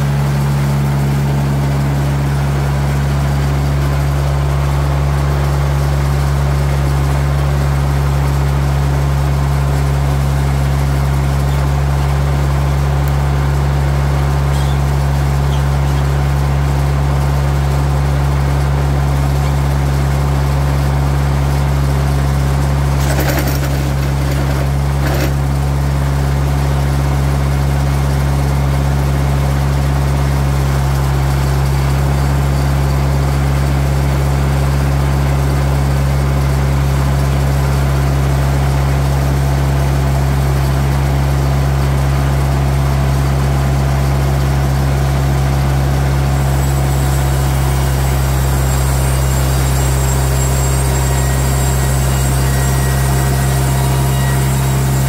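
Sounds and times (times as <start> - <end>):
sawmill engine idling: 0.0 - 55.0.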